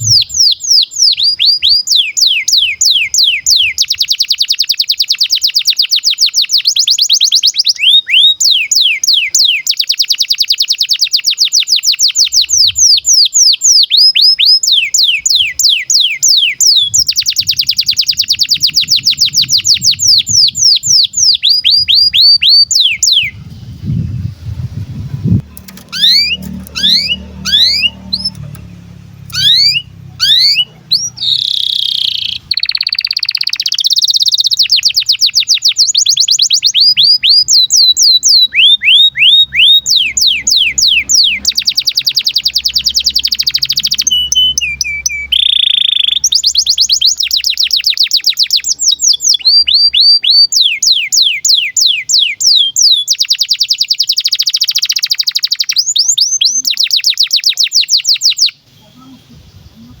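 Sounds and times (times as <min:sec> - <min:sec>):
canary singing trills: 0:00.0 - 1:00.0.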